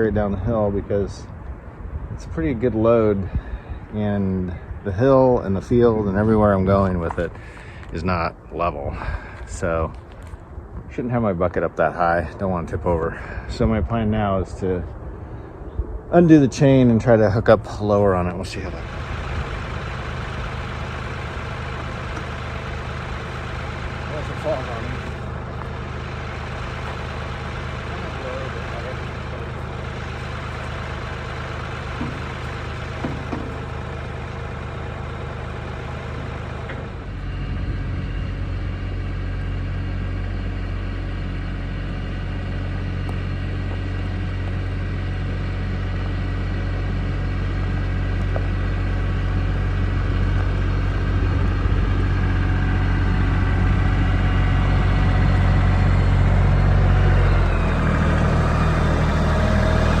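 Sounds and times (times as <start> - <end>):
diesel tractor engine idling: 0.0 - 60.0.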